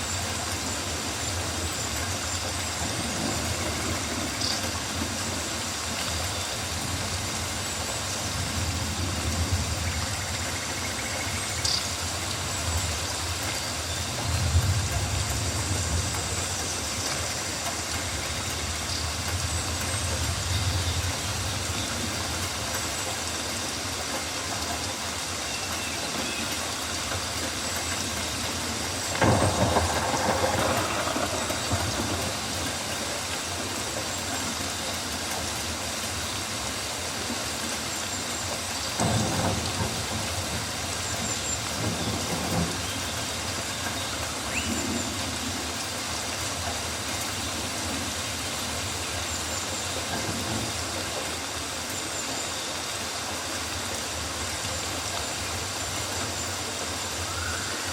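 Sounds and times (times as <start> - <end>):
rain on foliage: 0.0 - 57.9.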